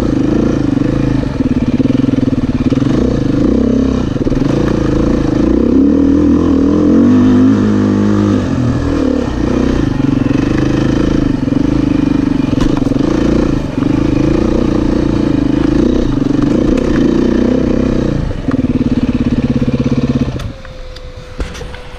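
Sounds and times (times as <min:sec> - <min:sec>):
dirt bike engine revving and idling: 0:00.0 - 0:21.9.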